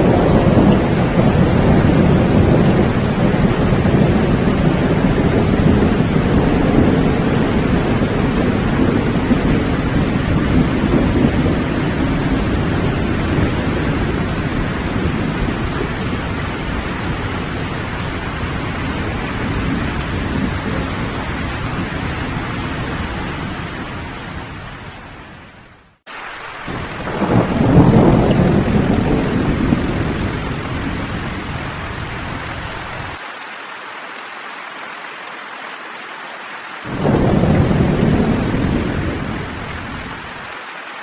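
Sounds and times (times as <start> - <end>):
rolling thunder: 0.0 - 24.9, 26.6 - 33.2, 36.9 - 40.4
steady rain: 0.0 - 41.0.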